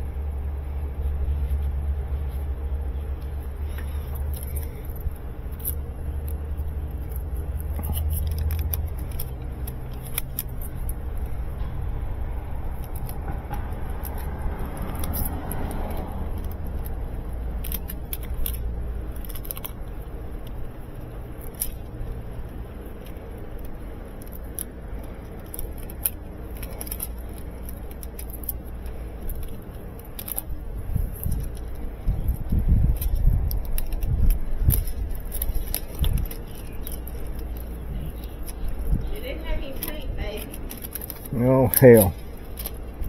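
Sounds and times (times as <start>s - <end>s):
steady low rumble: 0.0s - 43.0s
tape and hose crinkling: 0.0s - 43.0s.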